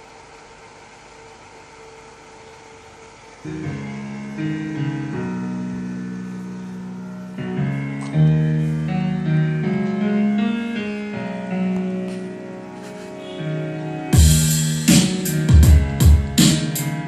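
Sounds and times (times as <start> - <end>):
music with sustained chords: 1.7 - 17.0.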